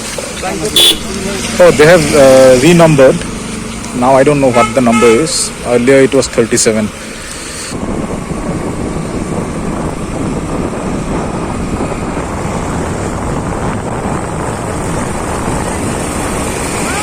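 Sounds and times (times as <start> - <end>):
vehicle rushing along highway: 0.0 - 17.0.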